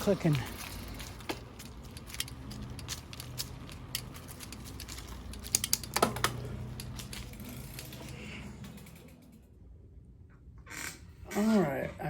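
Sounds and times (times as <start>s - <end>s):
bike clicking: 0.0s - 9.7s.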